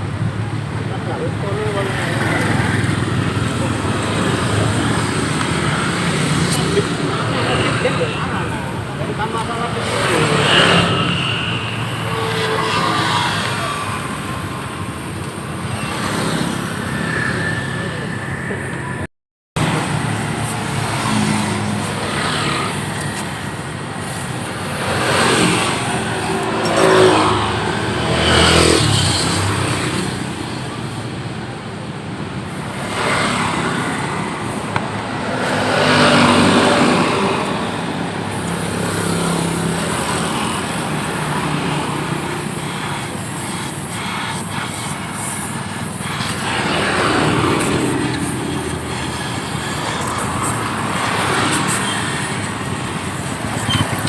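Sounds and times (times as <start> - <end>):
steady traffic rumble: 0.0 - 54.0
vehicles passing by: 0.0 - 54.0.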